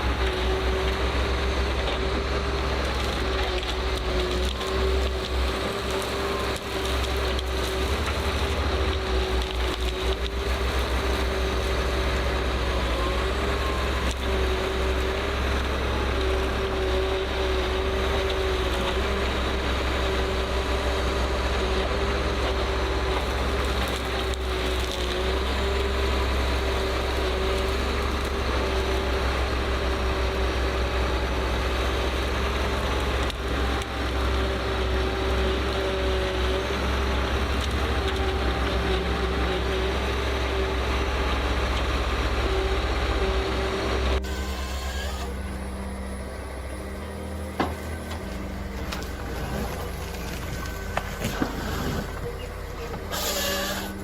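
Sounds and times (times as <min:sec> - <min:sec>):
heavy machine engine rumbling: 0:00.0 - 0:54.0.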